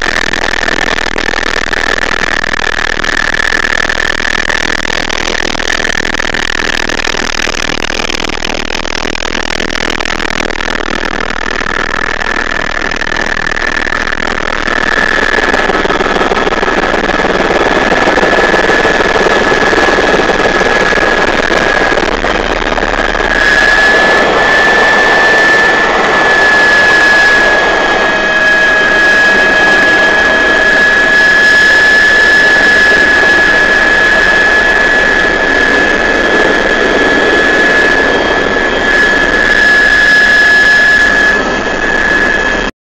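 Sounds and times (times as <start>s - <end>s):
helicopter turbine whine: 0.0s - 42.7s
rotor and cabin noise: 0.0s - 42.7s.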